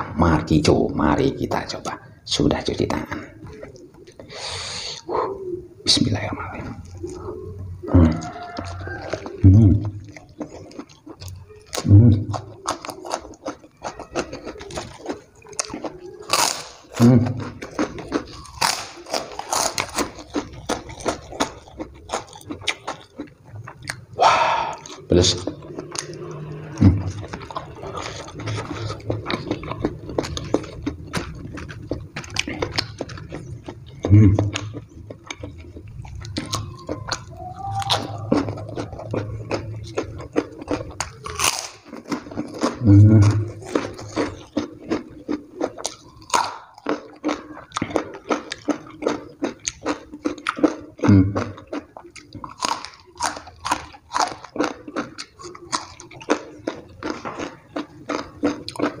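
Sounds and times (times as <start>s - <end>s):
man chewing and lip-smacking: 1.5s - 59.0s.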